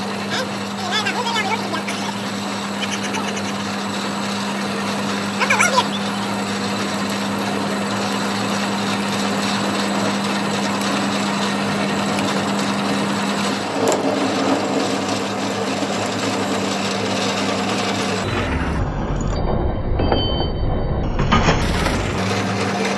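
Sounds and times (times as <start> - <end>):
workshop machine humming and hissing: 0.0 - 19.2, 21.3 - 22.9
lower machine sound: 0.0 - 22.9.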